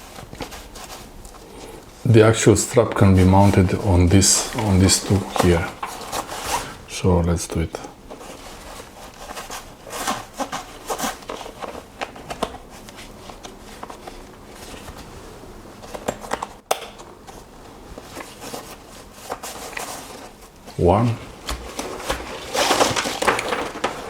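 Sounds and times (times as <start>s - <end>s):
fabric bag rustling: 0.0s - 7.0s, 7.7s - 24.0s.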